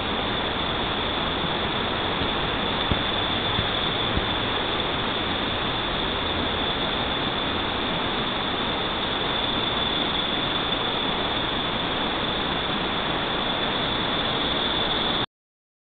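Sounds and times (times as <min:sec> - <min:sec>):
steady hiss: 0:00.0 - 0:15.3
thin high whine: 0:00.0 - 0:15.3.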